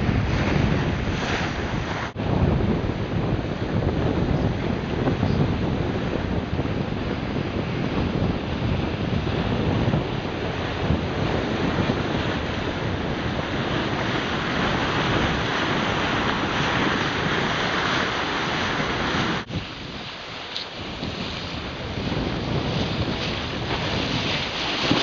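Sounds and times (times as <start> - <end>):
water rushing along hull: 0.0 - 25.0
wind buffeting microphone: 0.0 - 25.0.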